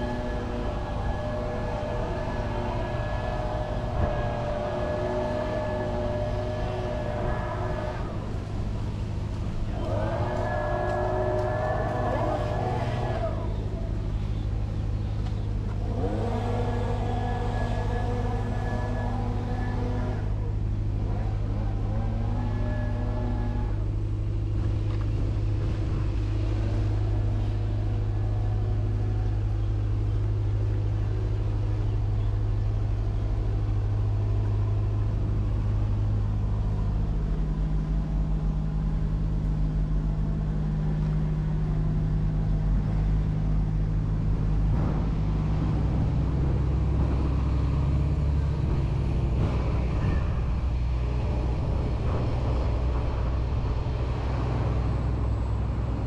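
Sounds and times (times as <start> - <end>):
road traffic engine hum: 0.0 - 56.0.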